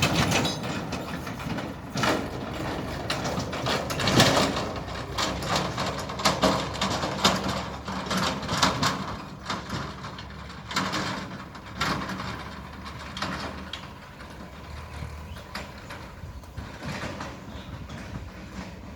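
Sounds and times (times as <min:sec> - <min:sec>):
diesel engine running: 0:00.0 - 0:18.9
scraping and clanking knocks: 0:00.0 - 0:18.9.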